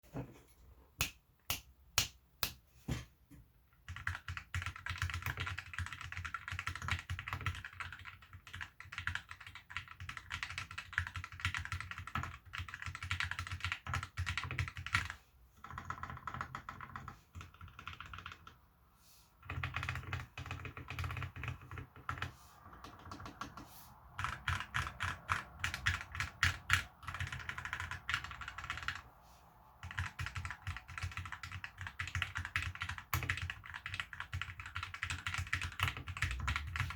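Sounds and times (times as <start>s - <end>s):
mechanical keyboard typing: 3.8s - 18.6s, 19.4s - 23.6s, 24.2s - 29.0s, 29.8s - 36.9s.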